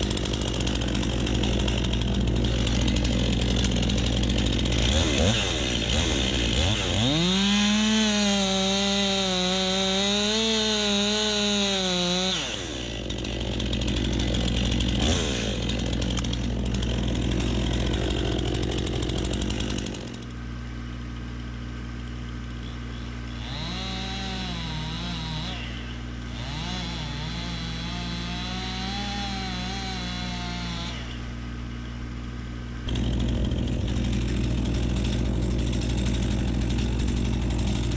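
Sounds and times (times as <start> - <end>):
chainsaw cutting at full throttle: 0.0 - 37.9.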